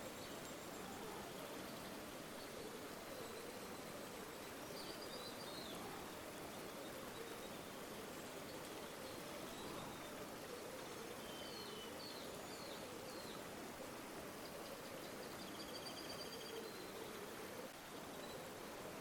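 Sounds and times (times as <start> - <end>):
faint bird chirps: 0.0 - 13.4, 14.4 - 18.6
river water flowing: 0.0 - 19.0.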